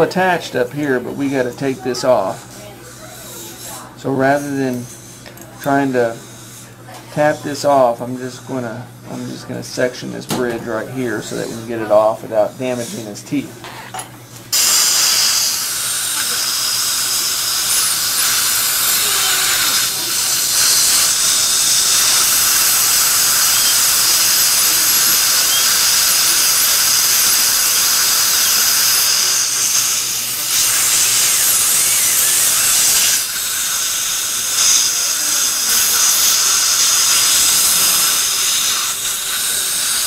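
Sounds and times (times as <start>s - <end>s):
dental drill whining: 0.0s - 40.0s.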